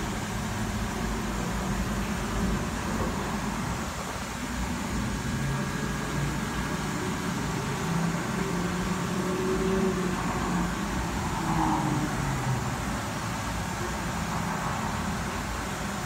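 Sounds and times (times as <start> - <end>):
low mechanical hum with hiss: 0.0 - 16.0.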